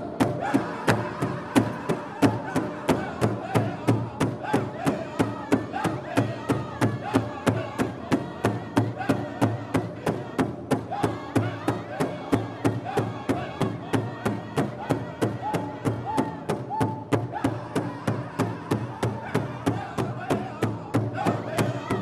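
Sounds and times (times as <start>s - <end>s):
drum beating: 0.0s - 22.0s
men singing together: 0.0s - 22.0s.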